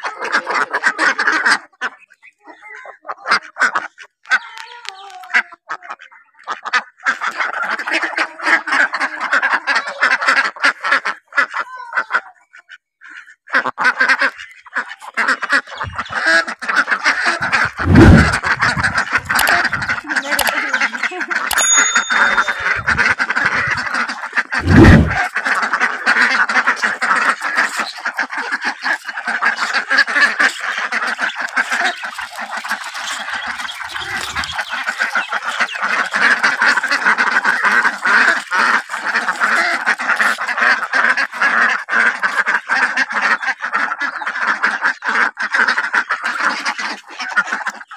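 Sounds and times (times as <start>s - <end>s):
ducks quacking: 0.0s - 47.9s.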